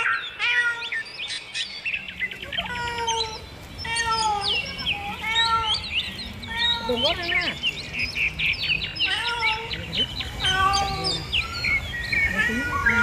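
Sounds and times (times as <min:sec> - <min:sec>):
bird trill: 0:00.0 - 0:13.0
birds calling and chirping: 0:00.0 - 0:13.0.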